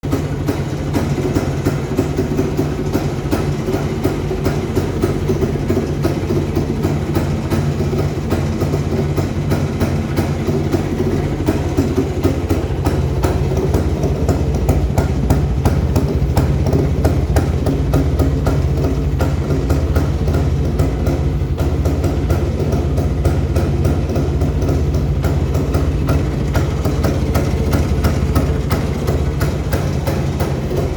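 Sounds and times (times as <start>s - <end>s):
two-stroke motorcycle engine running: 0.0s - 30.9s.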